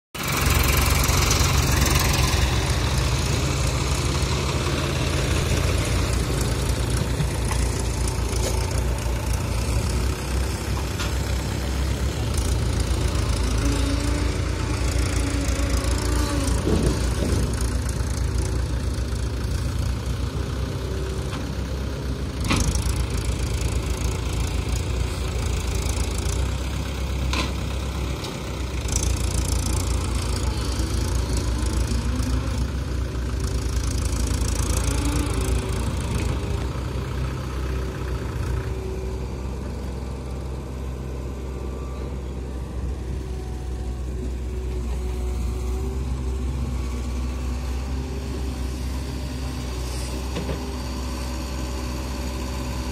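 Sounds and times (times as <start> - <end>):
tractor engines throbbing: 0.2 - 52.9.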